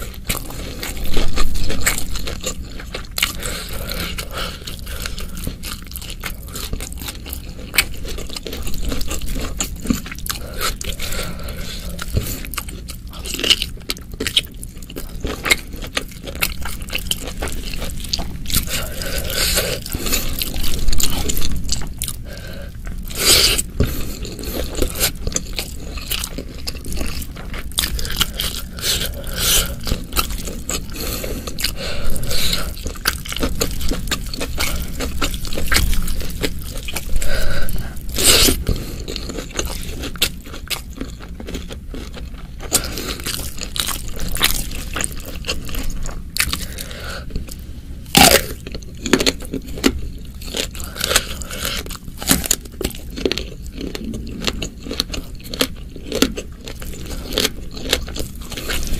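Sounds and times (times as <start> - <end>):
chewing and crunching: 0.0 - 58.9.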